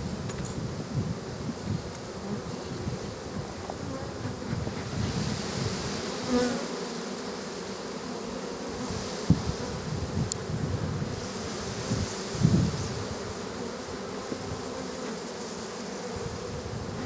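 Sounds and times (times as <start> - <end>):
honey bees buzzing: 0.2 - 17.0.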